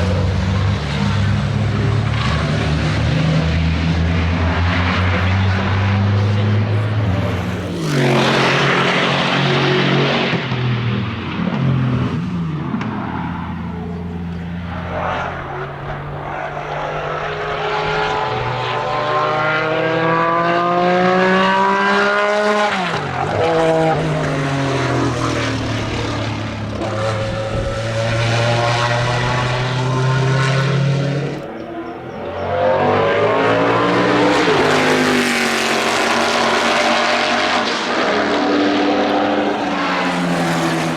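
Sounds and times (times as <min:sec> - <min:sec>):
car passing by loudly: 0:00.0 - 0:40.9
racing car engine accelerating: 0:00.0 - 0:40.9.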